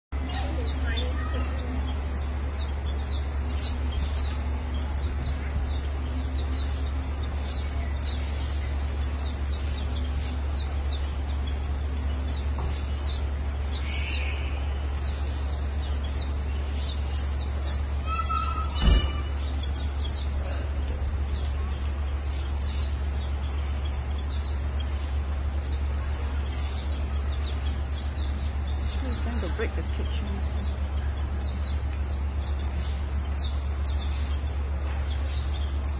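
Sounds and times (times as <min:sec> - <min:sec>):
small songbirds chirping: 0:00.1 - 0:35.9
steady low hum: 0:00.1 - 0:35.9.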